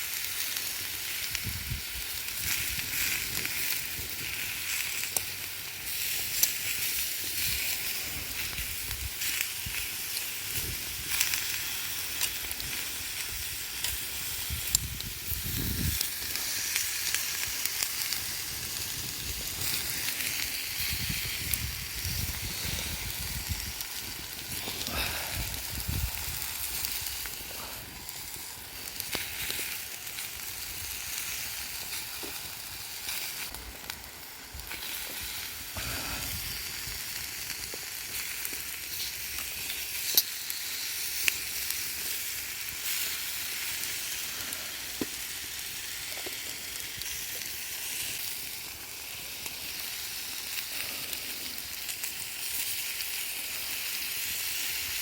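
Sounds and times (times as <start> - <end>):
fire popping: 0.0 - 55.0
food sizzling over campfire: 0.0 - 55.0.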